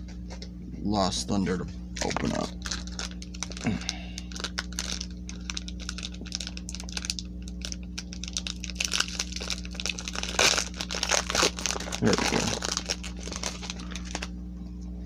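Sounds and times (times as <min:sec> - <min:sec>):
foil wrapper crinkling: 0:02.0 - 0:14.3.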